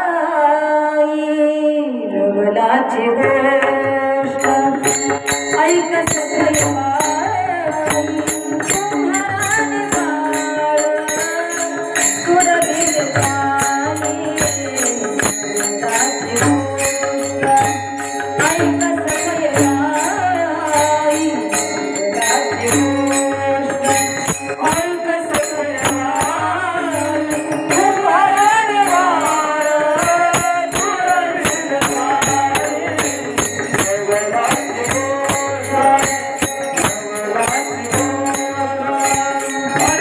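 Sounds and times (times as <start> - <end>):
woman singing devotional song: 0.0 - 40.0
instrumental accompaniment: 3.1 - 40.0
small hand cymbals: 4.2 - 40.0.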